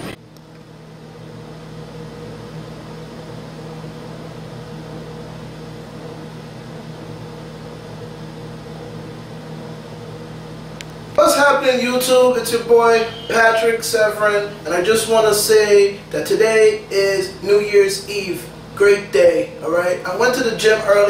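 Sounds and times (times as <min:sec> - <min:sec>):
kitchen appliance humming: 0:00.0 - 0:21.0.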